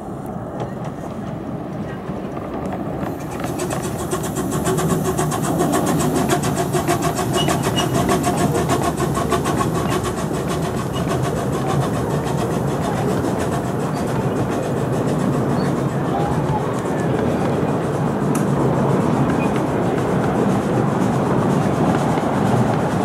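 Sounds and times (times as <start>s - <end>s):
carriages rolling on track: 0.4s - 23.0s
steam locomotive exhaust chuffs: 3.0s - 23.0s.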